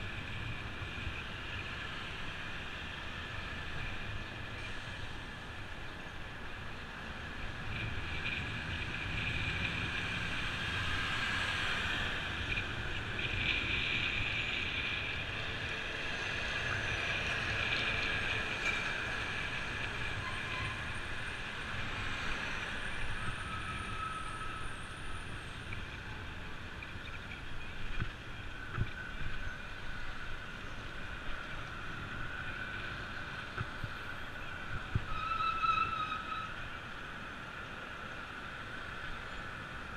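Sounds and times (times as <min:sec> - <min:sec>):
bicycle riding noise: 0:00.0 - 0:39.9
passing traffic: 0:00.0 - 0:39.9.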